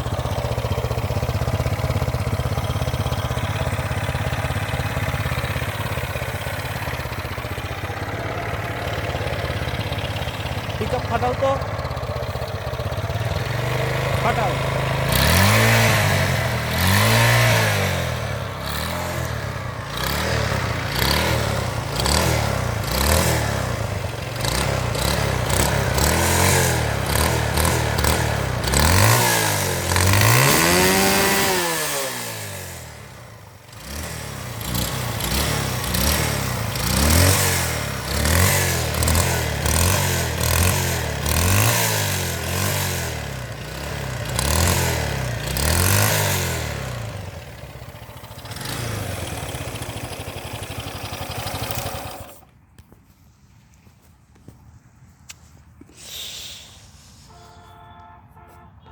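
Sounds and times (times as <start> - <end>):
motorcycle engine revving: 0.0 - 58.1.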